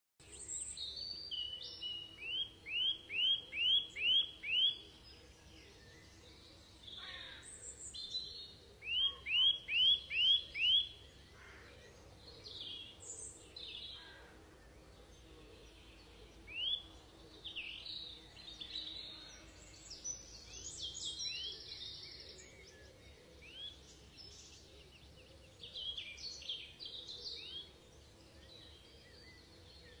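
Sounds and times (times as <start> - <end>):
birds singing: 0.2 - 30.0.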